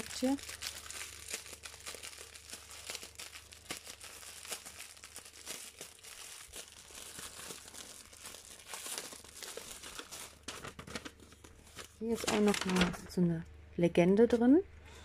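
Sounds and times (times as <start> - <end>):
plastic packaging crinkling: 0.0 - 13.2.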